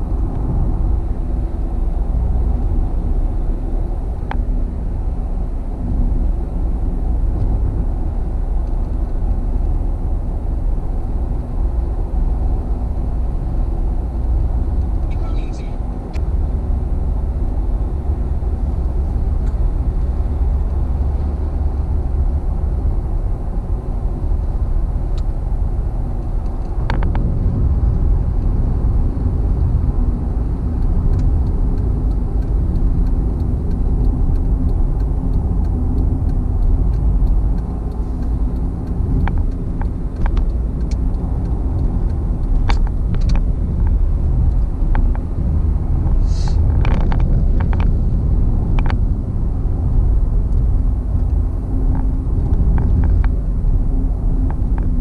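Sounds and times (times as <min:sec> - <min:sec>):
car cabin road rumble: 0:00.0 - 0:55.0.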